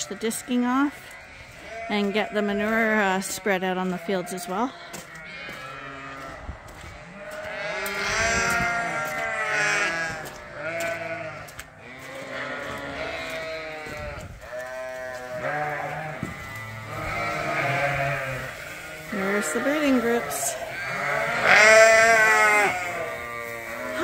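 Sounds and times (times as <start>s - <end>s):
sheep bleating: 0.0s - 24.0s.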